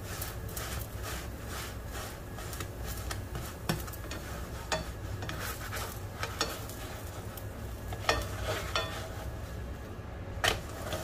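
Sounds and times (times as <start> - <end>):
utensil clinking and scraping pan: 0.0 - 9.6, 10.4 - 11.0
food sizzling in a pan: 0.0 - 11.0.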